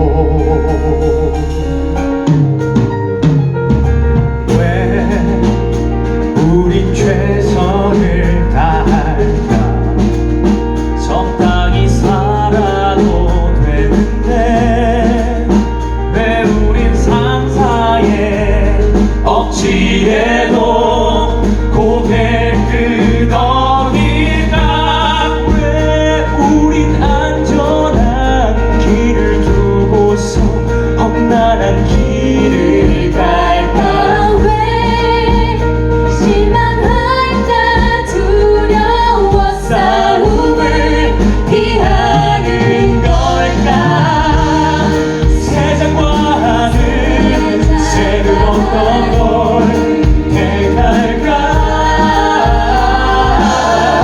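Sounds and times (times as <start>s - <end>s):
person singing: 0.0s - 2.2s, 11.1s - 54.0s
band with strong bass line: 0.0s - 54.0s.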